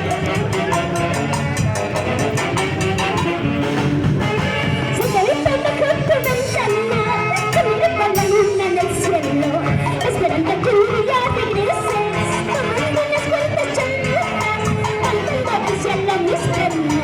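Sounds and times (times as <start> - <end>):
wavering lead melody: 0.0 - 16.7
band playing folk music: 0.0 - 17.0.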